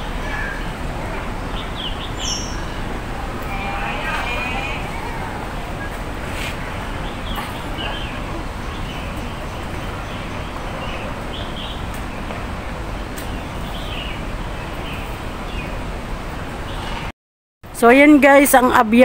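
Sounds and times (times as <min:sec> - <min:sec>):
birds chirping: 0:00.0 - 0:17.1.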